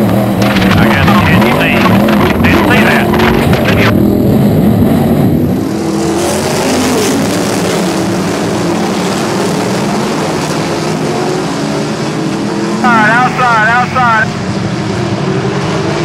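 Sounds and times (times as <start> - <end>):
race car engine on board: 0.0 - 16.0
race cars passing: 0.0 - 16.0.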